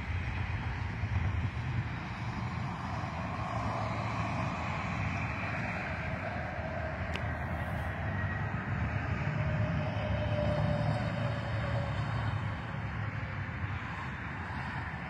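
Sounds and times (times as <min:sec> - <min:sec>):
highway traffic rush: 0:00.0 - 0:15.0
truck passing rumble: 0:00.0 - 0:15.0.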